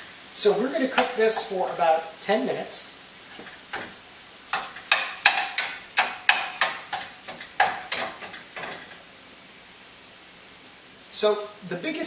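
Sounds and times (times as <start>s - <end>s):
beef sizzling: 0.0s - 12.0s.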